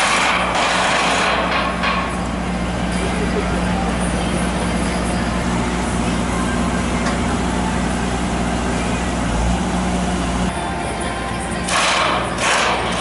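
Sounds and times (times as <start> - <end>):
large engine humming: 0.0 - 13.0
outdoor noise: 0.0 - 13.0.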